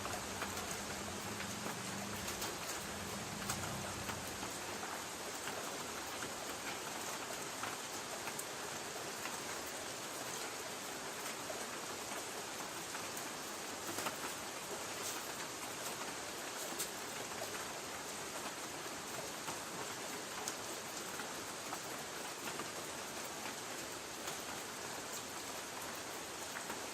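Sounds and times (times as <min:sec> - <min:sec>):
light rain on a tin roof: 0:00.0 - 0:26.9.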